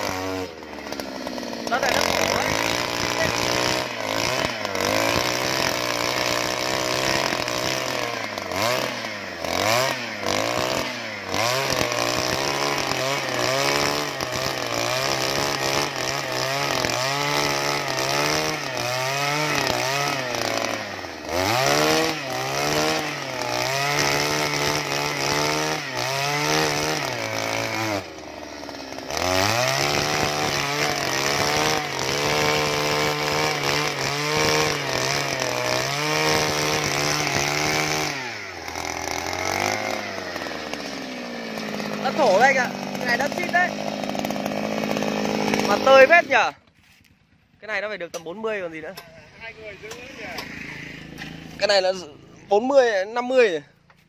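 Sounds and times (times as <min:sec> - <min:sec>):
earth auger engine running: 0:00.0 - 0:54.0.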